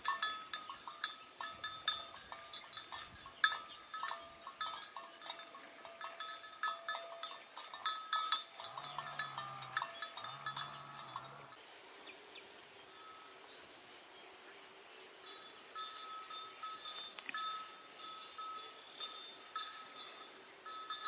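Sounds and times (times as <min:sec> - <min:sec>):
livestock bell clanking: 0:00.0 - 0:11.6, 0:12.9 - 0:13.3, 0:15.2 - 0:21.0.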